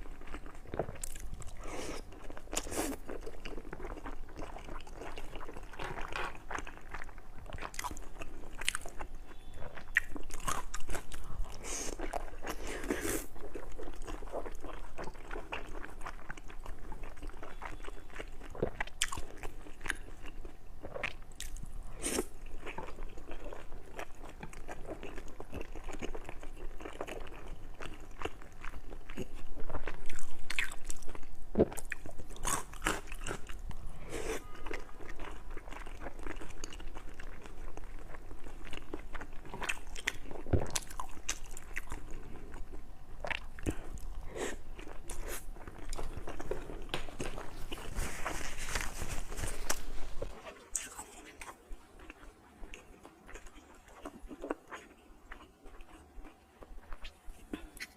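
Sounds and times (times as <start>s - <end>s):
crunching and chewing food: 0.0s - 57.9s.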